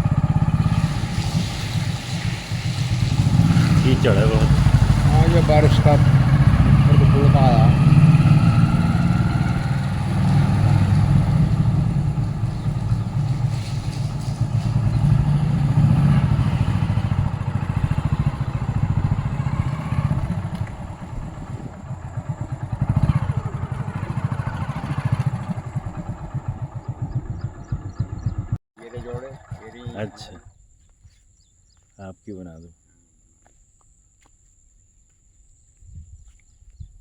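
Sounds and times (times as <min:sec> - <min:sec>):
motorcycle engine running: 0:00.0 - 0:30.4.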